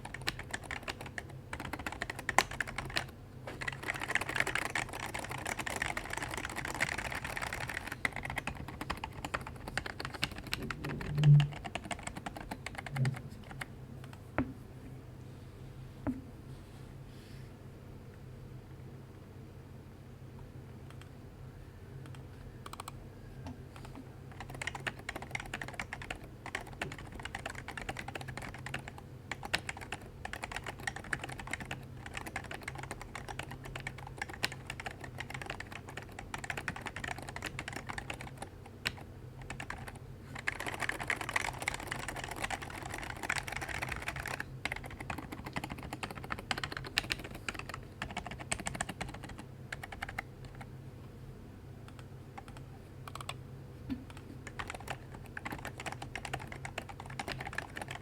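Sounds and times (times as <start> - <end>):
keyboard typing: 0.0 - 14.2, 22.1 - 23.0, 23.8 - 50.7, 51.9 - 53.4, 54.1 - 58.0
steady low hum: 0.0 - 58.0.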